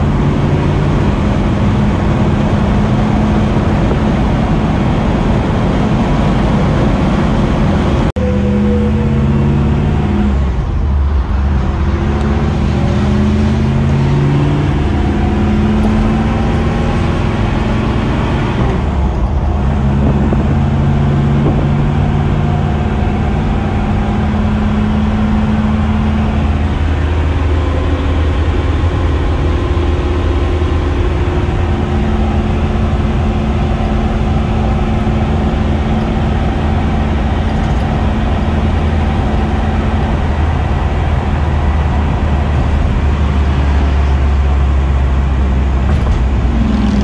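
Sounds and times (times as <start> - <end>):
deep engine exhaust note: 0.0 - 47.0
road and wind noise: 0.0 - 47.0.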